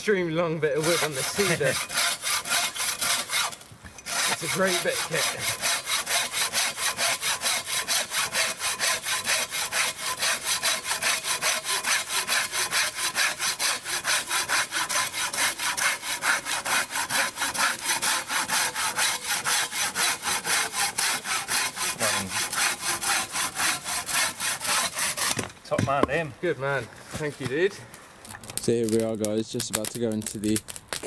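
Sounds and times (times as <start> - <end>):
hand saw cutting log: 0.4 - 27.7.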